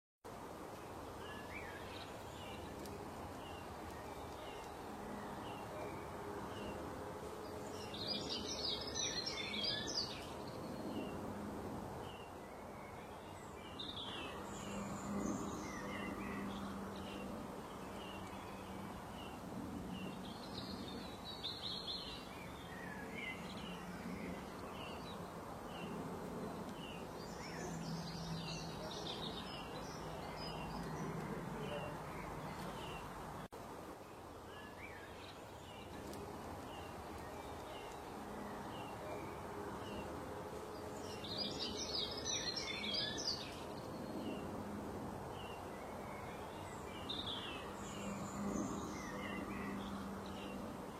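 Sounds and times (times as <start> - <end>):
birds chirping: 0.9 - 11.4, 12.0 - 44.6.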